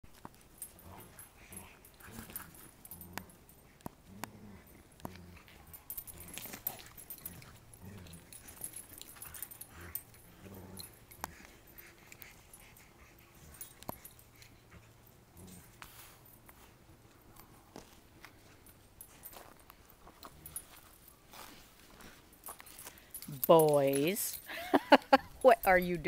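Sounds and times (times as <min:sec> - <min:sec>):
dogs play growling: 0:00.1 - 0:23.3.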